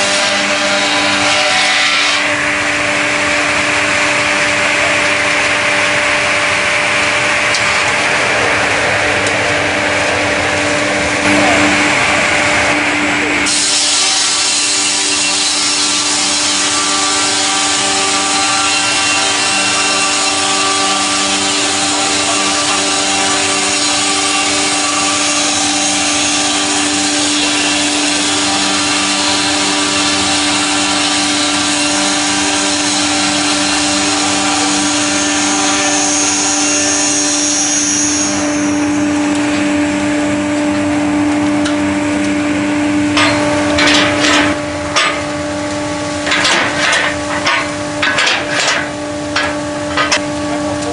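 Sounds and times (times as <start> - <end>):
saw blades cutting wood: 0.0 - 41.2, 42.6 - 50.3
machine hum: 0.0 - 50.9.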